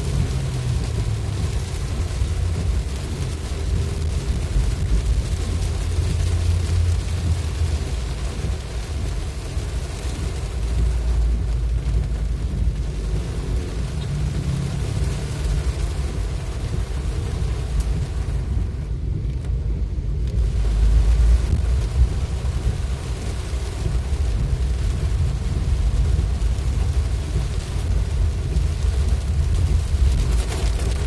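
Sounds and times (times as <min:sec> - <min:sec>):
rain hiss: 0:00.0 - 0:31.0
vehicle road and wind noise: 0:00.0 - 0:31.0.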